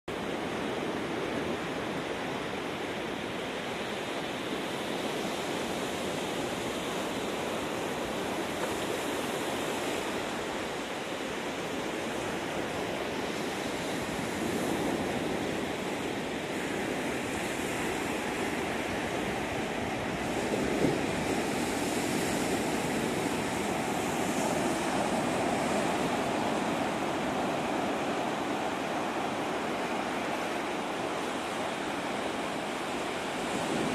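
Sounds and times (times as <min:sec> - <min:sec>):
ocean surf washing onto sand: 0:00.1 - 0:33.9.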